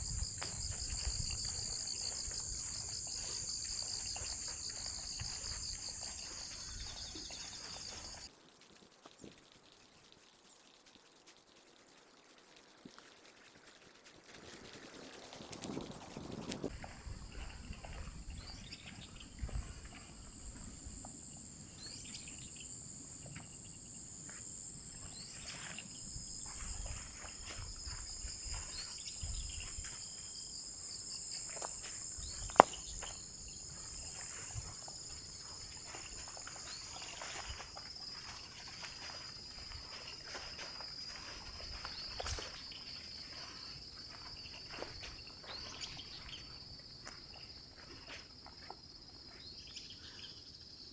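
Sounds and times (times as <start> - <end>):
insects chirping chorus: 0.0 - 50.9.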